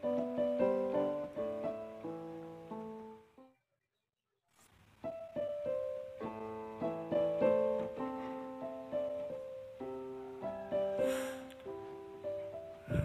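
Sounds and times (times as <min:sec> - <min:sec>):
piano music: 0:00.0 - 0:03.6, 0:05.0 - 0:13.0.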